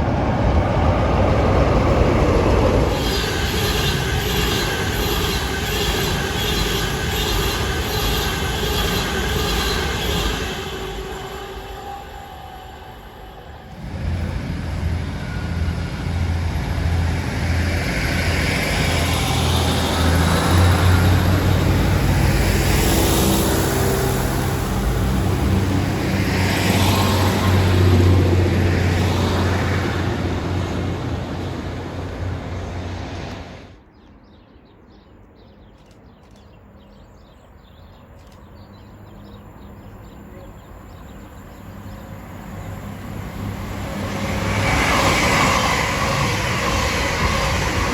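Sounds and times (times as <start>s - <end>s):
train passing with low rumbling hum: 0.0s - 47.9s.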